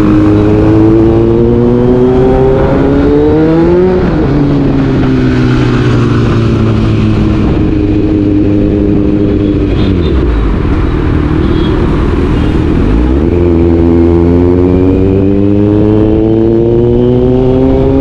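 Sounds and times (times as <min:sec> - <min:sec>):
motorcycle engine decelerating: 0:00.0 - 0:18.0.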